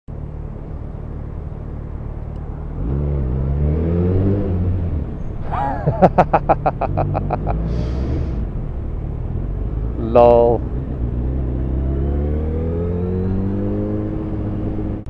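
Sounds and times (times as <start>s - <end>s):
motorcycle engine accelerating: 2.6s - 15.0s.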